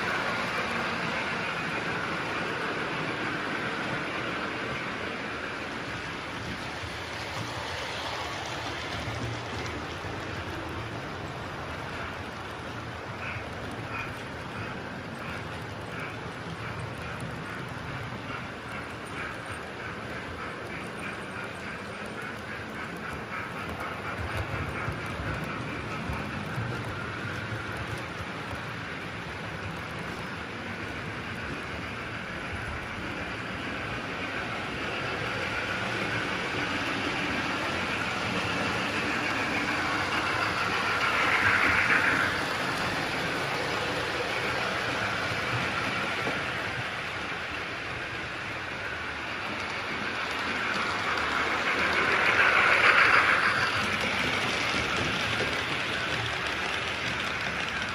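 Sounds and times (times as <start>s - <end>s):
model trains whirring on track: 0.0s - 57.9s.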